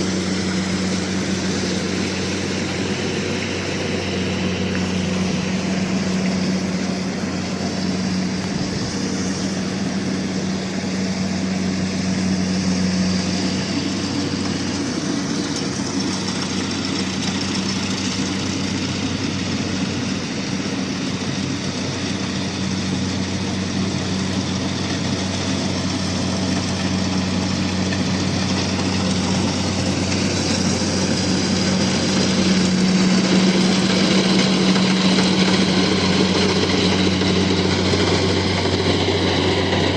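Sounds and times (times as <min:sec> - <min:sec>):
dense mechanical noise: 0:00.0 - 0:39.9
harvester engine drone: 0:00.0 - 0:39.9.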